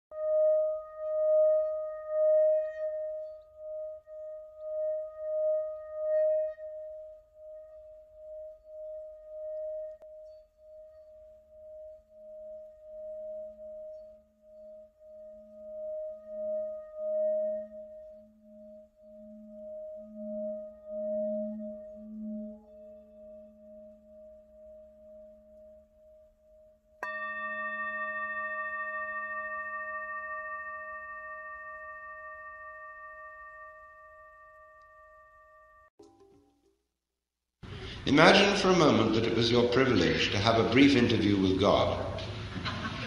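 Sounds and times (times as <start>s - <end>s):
lower singing bowl tone: 0.1s - 35.9s
singing bowl ringing tone: 0.1s - 36.0s.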